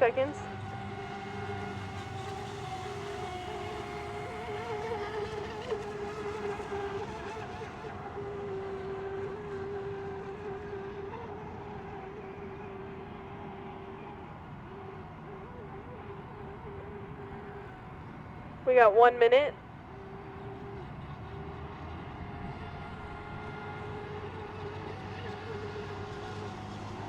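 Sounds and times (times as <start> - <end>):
model boat motors buzzing: 0.0 - 27.0.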